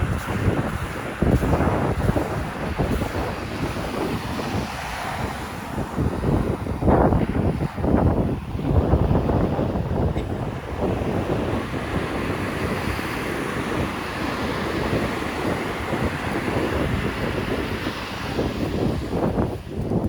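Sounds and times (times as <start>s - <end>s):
heavy ocean surf: 0.0s - 20.0s
wind buffeting microphone: 0.0s - 20.0s.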